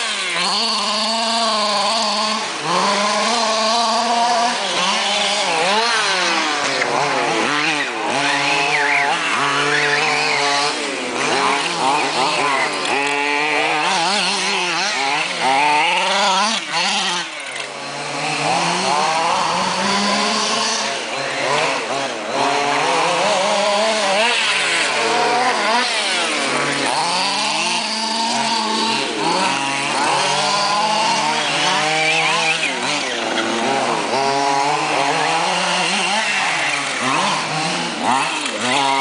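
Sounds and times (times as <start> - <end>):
small engine revving: 0.0 - 39.0.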